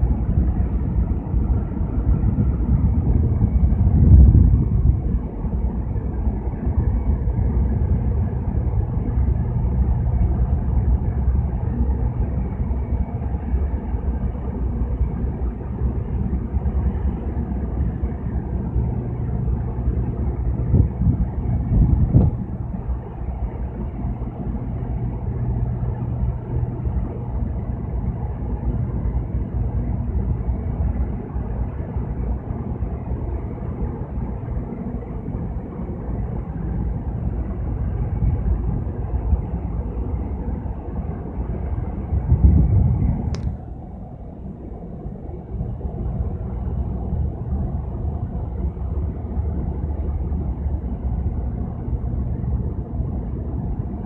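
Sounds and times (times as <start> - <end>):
low buffets: 0.0 - 54.0
ship engines rumbling: 0.0 - 54.0
steady hum: 0.0 - 54.0.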